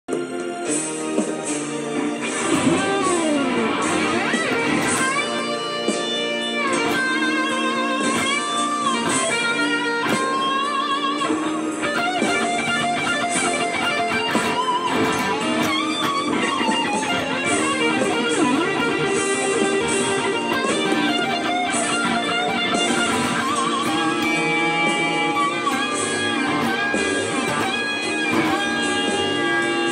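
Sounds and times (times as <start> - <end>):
electric guitar lead solo: 2.1 - 29.9.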